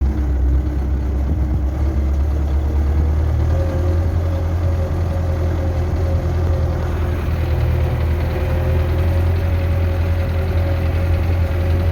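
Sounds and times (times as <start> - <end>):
tractor engine running: 0.0 - 11.9.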